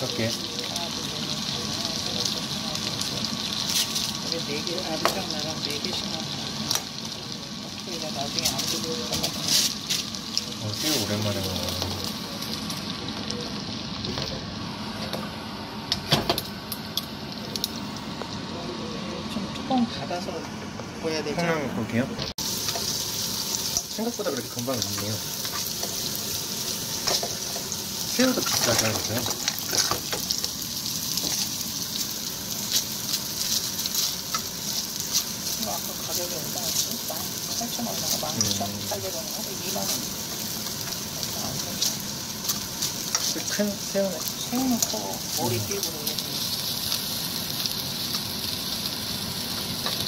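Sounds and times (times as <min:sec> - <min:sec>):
shrimp sizzling in butter: 0:00.0 - 0:18.6, 0:21.9 - 0:50.0.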